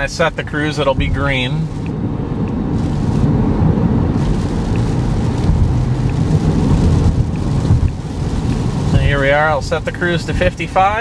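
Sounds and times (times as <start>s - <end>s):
car engine cruising: 0.0s - 11.0s
tyre and road noise: 0.0s - 11.0s.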